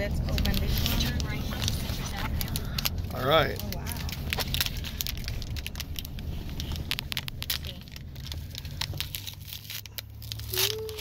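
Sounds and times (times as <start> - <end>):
car interior rumble: 0.0 - 11.0
wrapper crinkling and tearing: 0.0 - 11.0.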